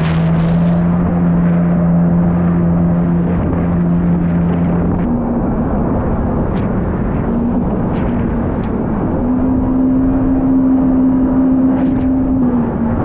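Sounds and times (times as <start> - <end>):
jet ski engine running: 0.0 - 13.0
water rushing: 0.0 - 13.0.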